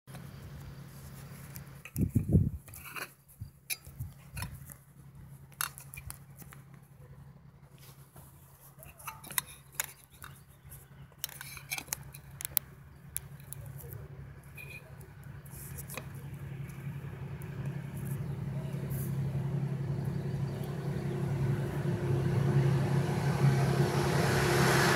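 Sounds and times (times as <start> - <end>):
distant diesel locomotive drone: 4.4 - 24.9.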